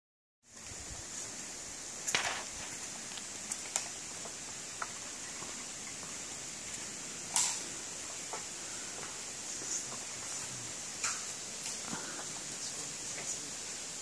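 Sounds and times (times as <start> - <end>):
steady high hiss: 0.4 - 14.0.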